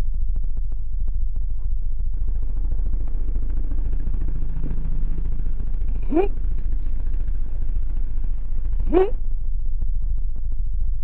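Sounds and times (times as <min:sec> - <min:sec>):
low engine-like hum: 0:00.0 - 0:11.0
steady low rumble: 0:00.0 - 0:11.0.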